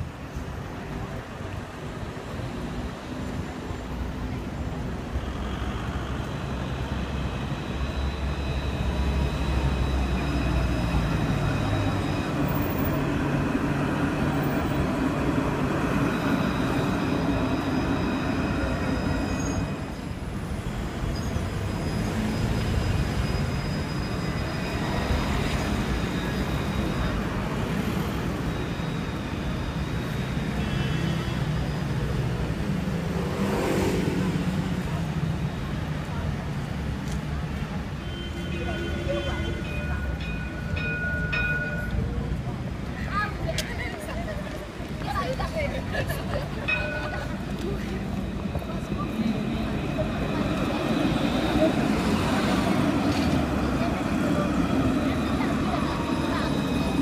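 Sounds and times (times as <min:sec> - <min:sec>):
street traffic: 0:00.0 - 0:57.0
tram wheels rumbling: 0:00.0 - 0:57.0.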